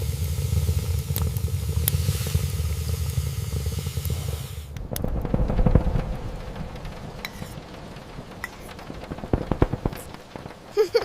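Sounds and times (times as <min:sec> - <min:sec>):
heavy rain hissing: 0:00.0 - 0:11.0
low rumble: 0:00.0 - 0:11.0
sharp ticks: 0:00.8 - 0:11.0.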